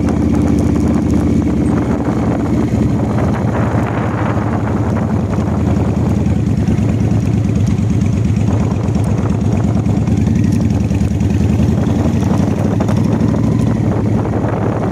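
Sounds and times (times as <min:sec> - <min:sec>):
engine whine: 0:00.0 - 0:14.9
motorcycle engine idling: 0:00.0 - 0:14.9.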